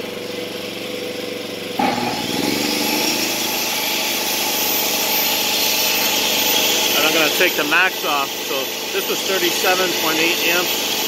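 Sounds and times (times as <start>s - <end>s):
table saw motor whining: 0.0s - 11.0s.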